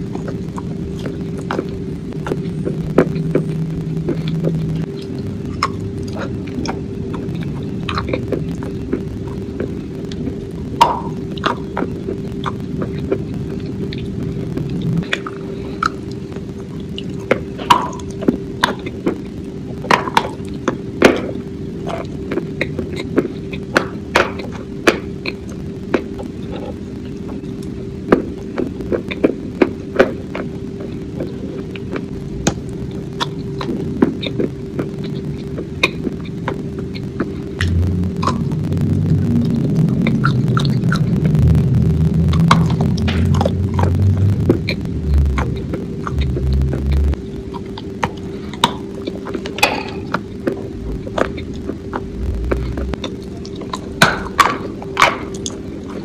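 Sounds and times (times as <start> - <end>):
crunchy food chewing: 0.0 - 41.4, 42.0 - 56.0
steady low hum: 0.0 - 56.0.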